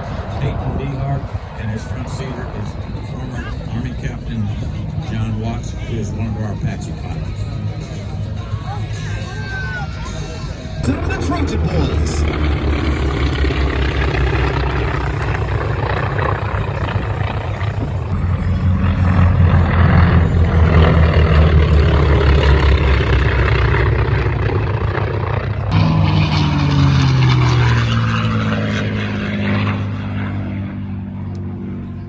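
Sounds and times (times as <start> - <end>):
plane passing by: 0.0 - 32.0
propeller plane engine drone: 0.0 - 32.0.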